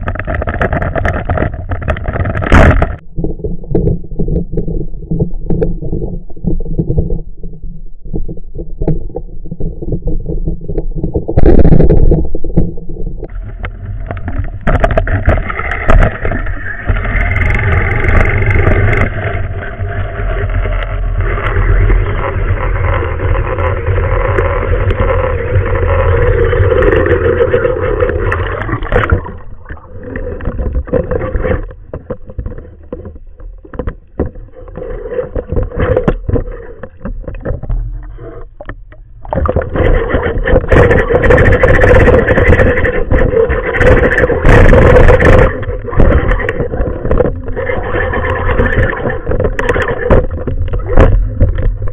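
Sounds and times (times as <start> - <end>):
underwater clicks and knocks: 0.0 - 51.9
underwater rumble and rush: 0.0 - 51.9.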